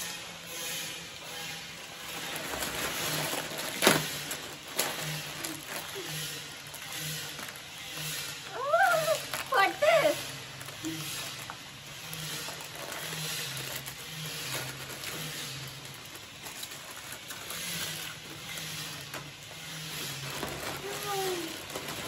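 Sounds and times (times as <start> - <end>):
foil chip packets crinkling: 1.3 - 22.0.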